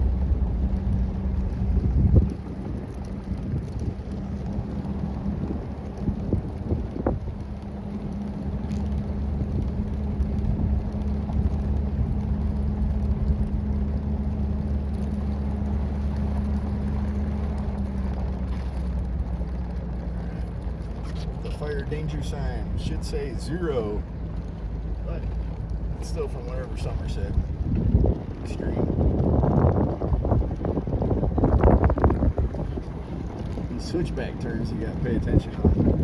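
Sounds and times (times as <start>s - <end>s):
engine and road drone: 0.0s - 36.0s.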